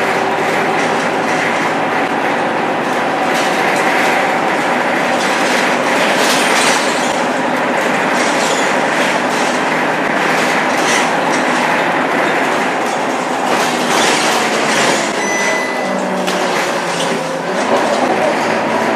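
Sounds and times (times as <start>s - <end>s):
bus diesel engine running: 0.0s - 18.9s
road noise: 0.0s - 18.9s.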